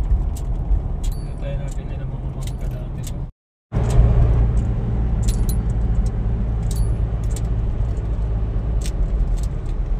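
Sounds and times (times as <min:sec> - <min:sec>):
car engine and road drone: 0:00.0 - 0:09.9.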